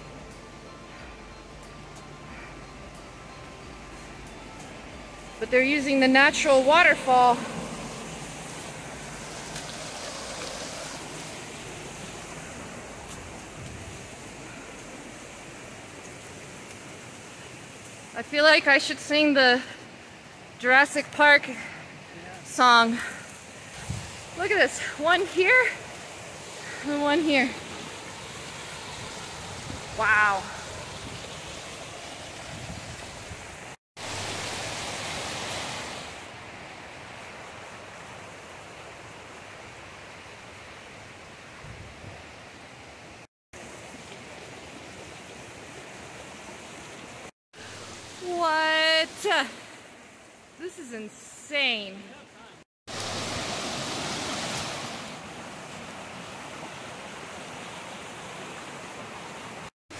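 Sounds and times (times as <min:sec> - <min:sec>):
mountain stream rushing: 0:00.0 - 0:59.7.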